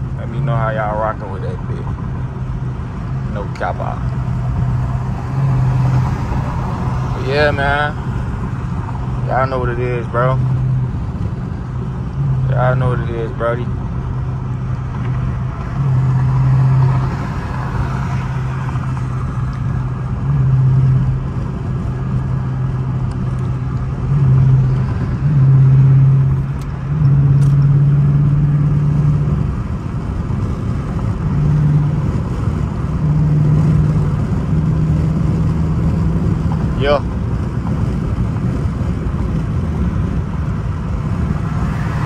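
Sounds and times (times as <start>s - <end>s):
car engine exhaust note: 0.0s - 42.0s
road and tyre noise: 0.0s - 42.0s.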